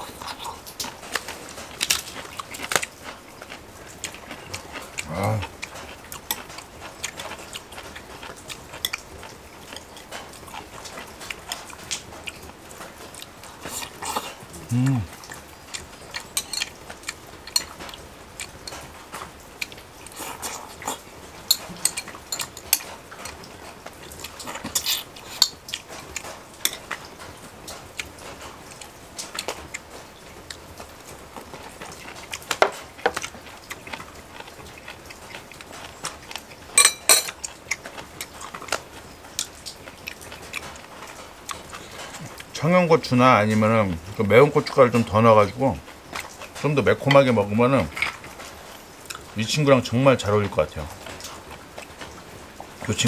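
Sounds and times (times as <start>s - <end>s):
chewing: 0.0s - 42.6s, 43.5s - 49.7s.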